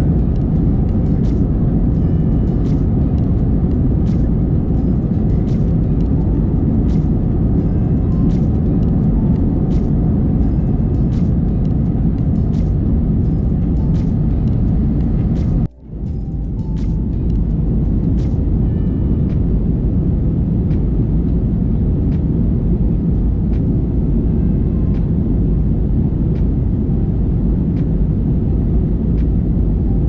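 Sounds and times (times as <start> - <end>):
airplane cabin engine roar: 0.0 - 30.0.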